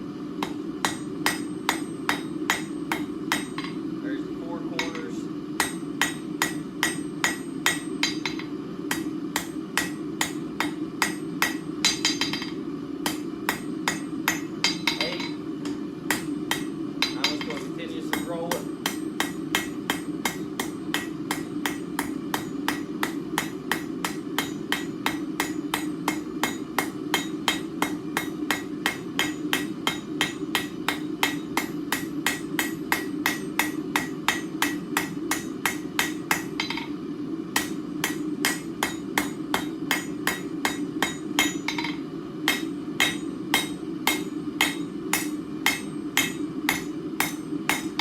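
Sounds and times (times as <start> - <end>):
hammer striking steel on anvil: 0.4 - 3.8, 4.8 - 37.0, 37.6 - 48.0.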